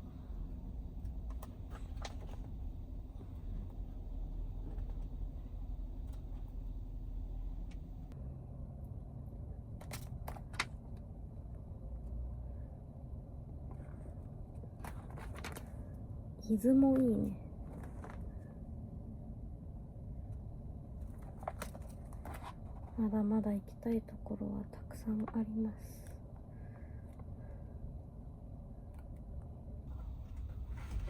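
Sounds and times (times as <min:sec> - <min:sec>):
vehicle low rumble: 0:00.0 - 0:31.0.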